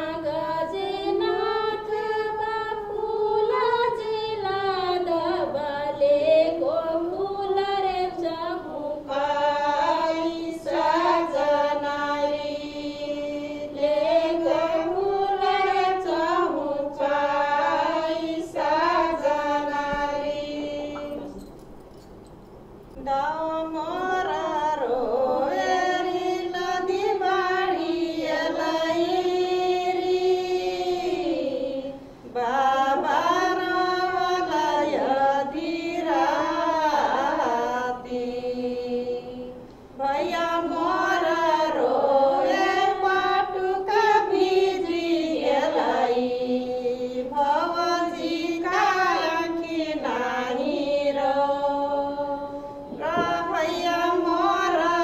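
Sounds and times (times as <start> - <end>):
women singing unaccompanied: 0.0 - 21.6, 23.0 - 55.0.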